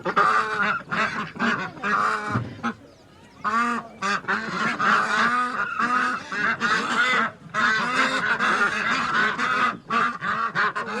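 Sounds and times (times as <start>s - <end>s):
ducks and geese calling: 0.0s - 11.0s.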